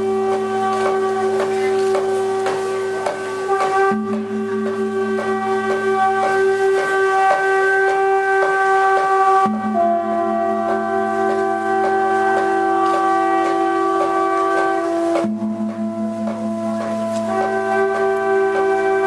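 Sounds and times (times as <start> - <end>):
droning chords with bell tones: 0.0 - 19.0.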